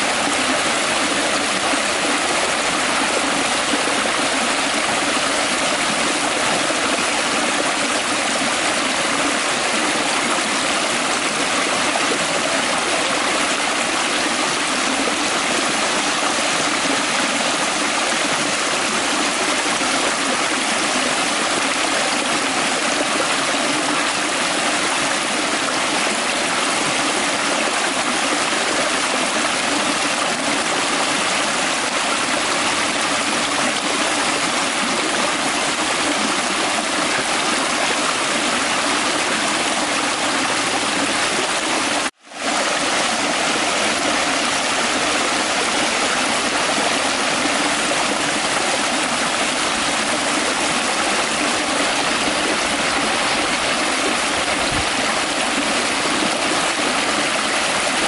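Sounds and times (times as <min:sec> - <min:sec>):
creek rushing over stones: 0:00.0 - 0:58.0.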